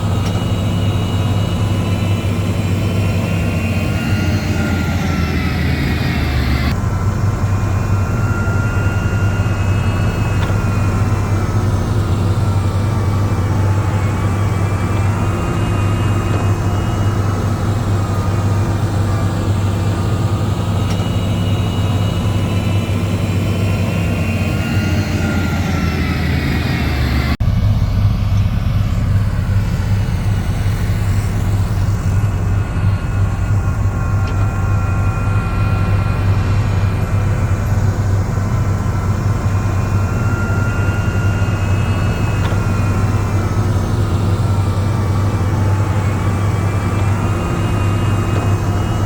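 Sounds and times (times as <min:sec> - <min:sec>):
diesel engine droning: 0:00.0 - 0:49.0
thin whining tones: 0:00.0 - 0:49.0.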